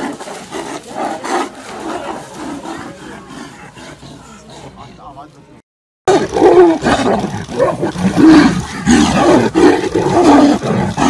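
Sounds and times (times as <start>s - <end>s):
tigers growling and roaring: 0.0s - 5.3s, 6.1s - 11.0s.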